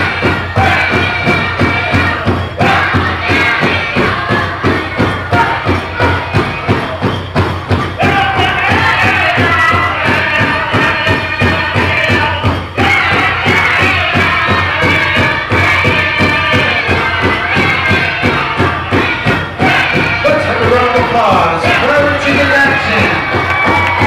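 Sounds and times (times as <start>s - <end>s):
big drum beating: 0.0s - 24.0s
men singing high-pitched: 0.0s - 24.0s.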